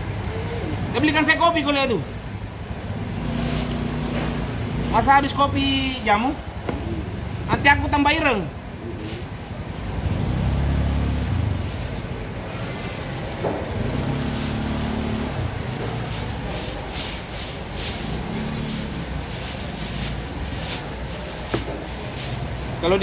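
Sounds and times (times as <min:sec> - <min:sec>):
outdoor background noise: 0:00.0 - 0:23.0
passing motor engines hum: 0:02.1 - 0:23.0.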